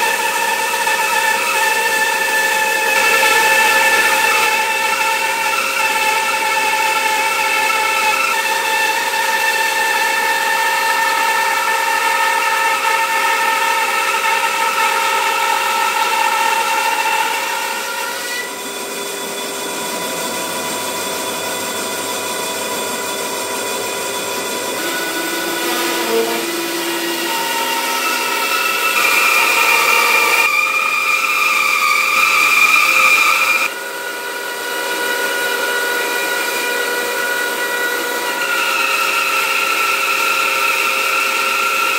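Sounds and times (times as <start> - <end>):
band saw cutting wood: 0.0 - 41.9.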